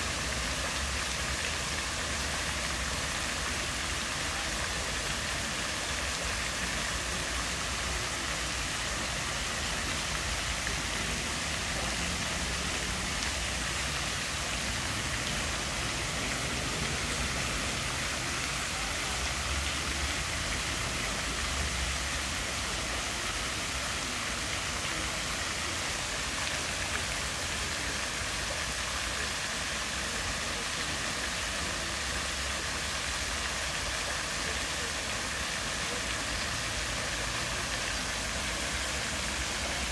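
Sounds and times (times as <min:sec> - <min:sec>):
fountain water splashing into pool: 0:00.0 - 0:39.9.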